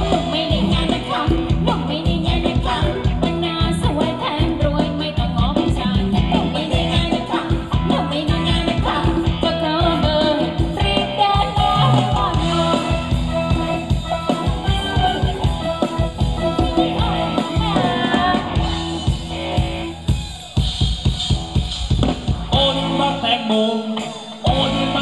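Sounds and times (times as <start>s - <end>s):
person singing: 0.0s - 18.7s, 22.4s - 25.0s
drum kit beat: 0.0s - 25.0s
live band dance music: 0.0s - 25.0s.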